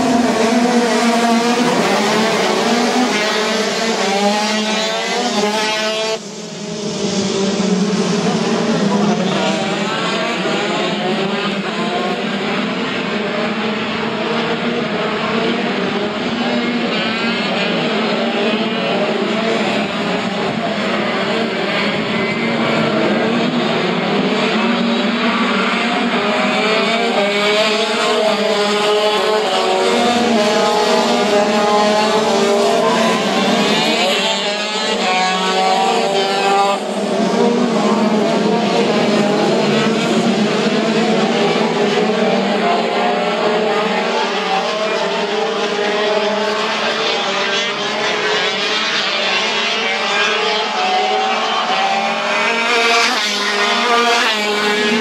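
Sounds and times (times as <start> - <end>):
racing kart engines revving: 0.0 - 55.0.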